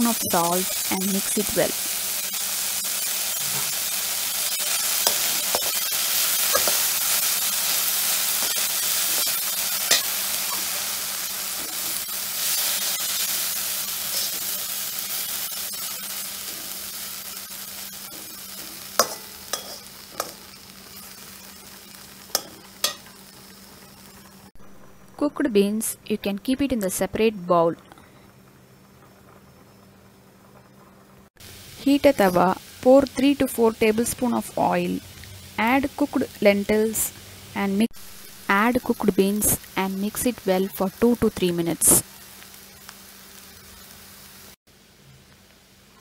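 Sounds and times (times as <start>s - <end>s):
beans sizzling in a pan: 0.0s - 25.1s, 27.9s - 46.0s.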